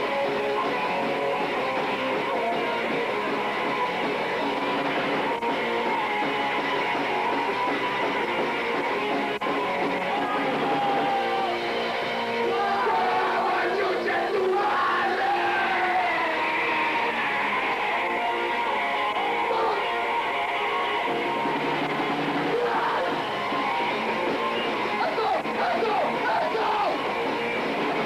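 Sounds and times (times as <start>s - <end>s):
live punk band playing: 0.0s - 28.0s.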